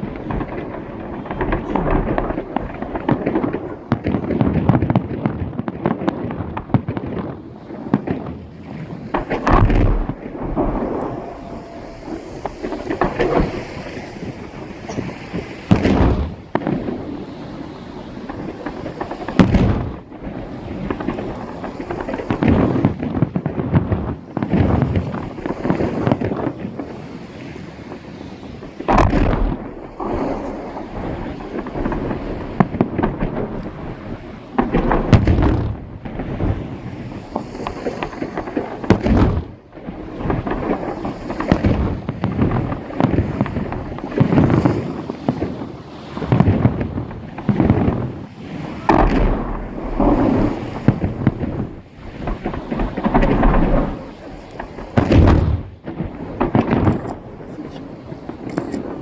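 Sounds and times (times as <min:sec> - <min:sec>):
firework booms with echo: 0:00.0 - 0:59.0
firework pops and crackle: 0:00.0 - 0:59.0.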